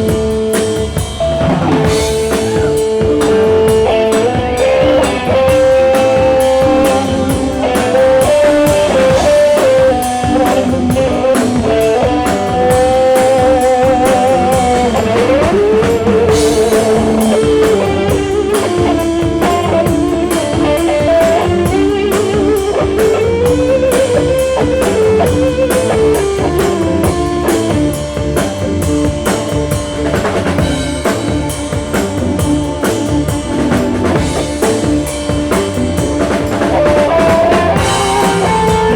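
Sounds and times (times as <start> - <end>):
drum kit beat: 0.0 - 38.9
electric guitar lead: 0.0 - 38.9.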